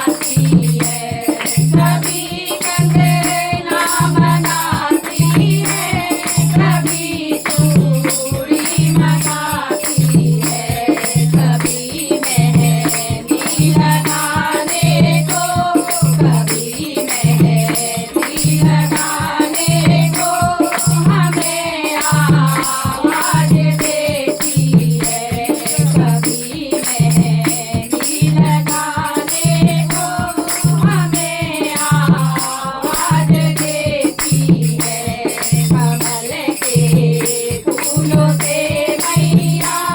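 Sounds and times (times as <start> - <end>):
jingling rattling percussion: 0.0 - 39.9.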